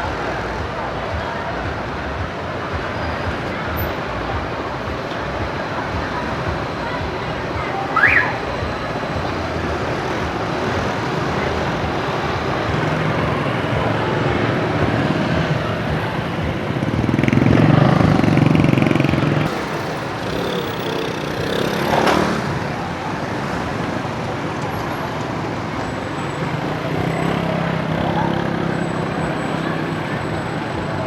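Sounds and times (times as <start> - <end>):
motorbikes passing: 0.0 - 31.0
street traffic: 0.0 - 31.0
vehicle engine: 0.0 - 31.0.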